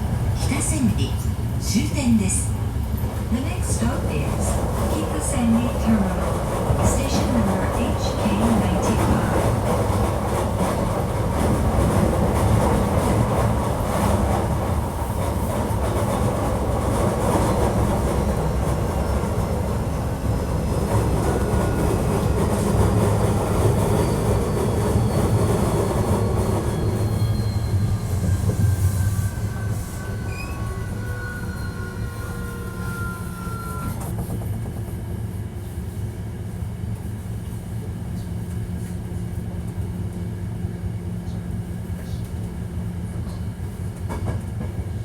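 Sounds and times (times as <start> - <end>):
wheels rumbling on rail: 0.0 - 45.0.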